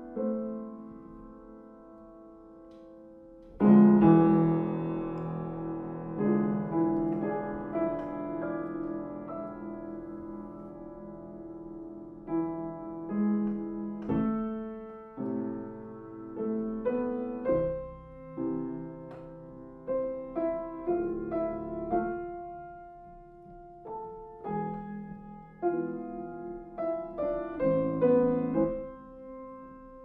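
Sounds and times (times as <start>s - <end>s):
upright piano playing: 0.0s - 30.0s.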